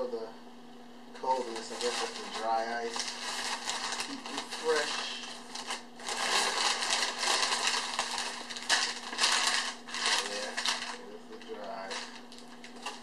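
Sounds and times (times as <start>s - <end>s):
newspaper rustling and crinkling: 1.2s - 13.0s.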